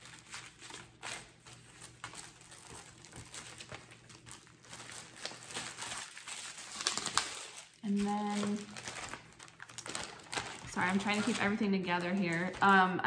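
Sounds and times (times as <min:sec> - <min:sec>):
crinkly rustling: 0:00.0 - 0:13.0.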